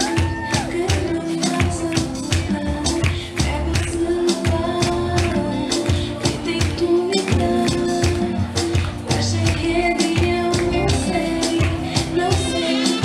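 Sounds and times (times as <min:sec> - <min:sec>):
dance music with steady beat: 0:00.0 - 0:13.0.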